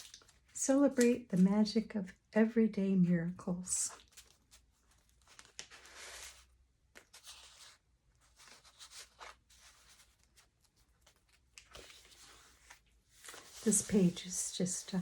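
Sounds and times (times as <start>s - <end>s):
paper pages rustling and turning: 0.0s - 1.4s, 3.9s - 15.0s.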